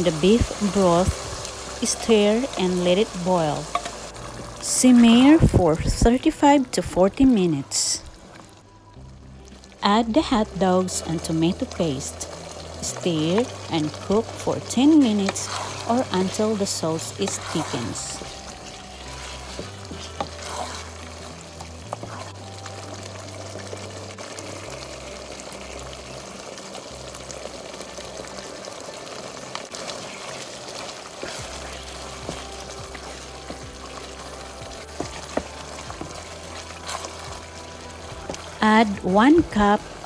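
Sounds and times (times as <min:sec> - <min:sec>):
sauce sizzling and bubbling: 0:00.0 - 0:40.0
soft background music: 0:00.0 - 0:40.0.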